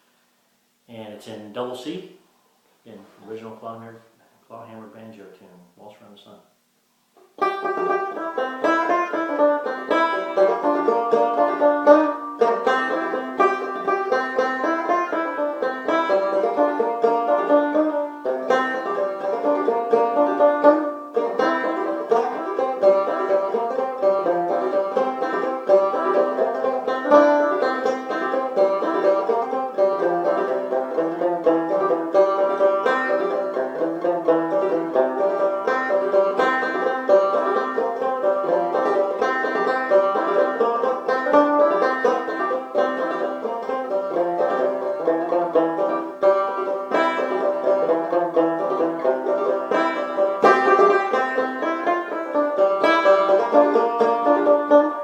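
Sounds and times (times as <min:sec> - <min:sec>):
banjo tune in waltz time: 0:07.2 - 0:55.0.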